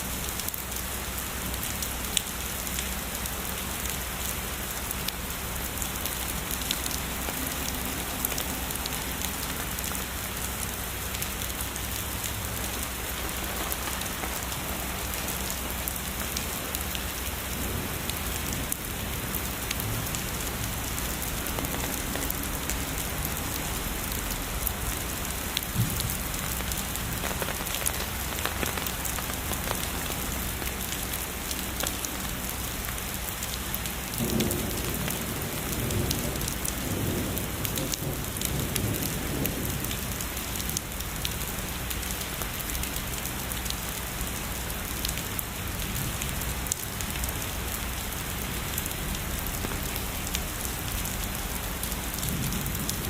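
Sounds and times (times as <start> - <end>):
heavy rain falling: 0.0 - 53.0
raindrops ticking on a surface: 0.0 - 53.0.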